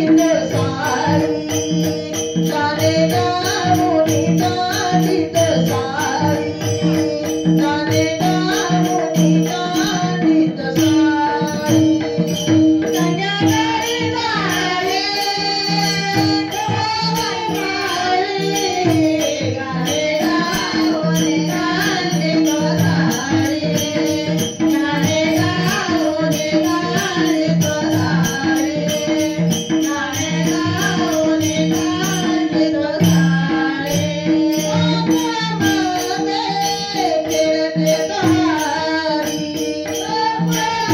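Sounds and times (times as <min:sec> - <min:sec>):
jingling percussion rhythm: 0:00.0 - 0:40.9.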